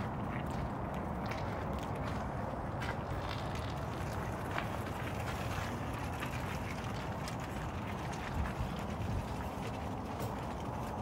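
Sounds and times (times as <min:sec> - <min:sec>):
footsteps on gravel: 0:00.0 - 0:11.0
wind rumble on microphone: 0:00.0 - 0:11.0.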